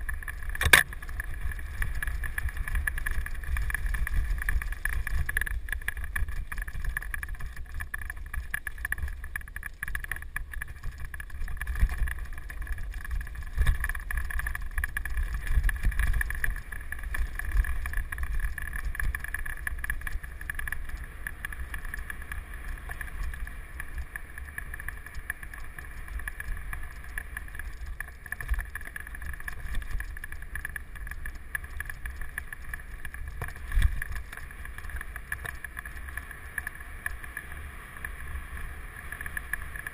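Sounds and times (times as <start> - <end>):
bike rattling: 0.0 - 39.9
wind rumbling on microphone: 0.0 - 39.9.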